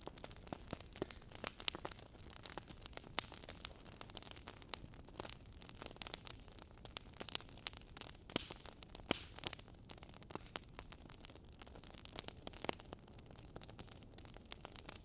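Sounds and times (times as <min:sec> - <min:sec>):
logs crackling and popping: 0:00.0 - 0:15.0
low steady fire hiss: 0:00.0 - 0:15.0.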